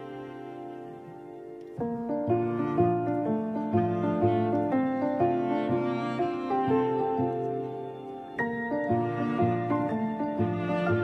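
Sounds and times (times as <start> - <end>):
soft slow instrumental music: 0.0 - 11.0.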